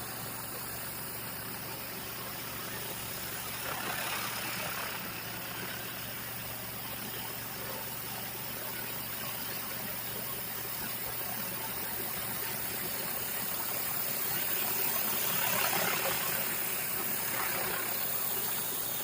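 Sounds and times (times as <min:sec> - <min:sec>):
pressure washer spraying concrete: 0:00.0 - 0:19.0.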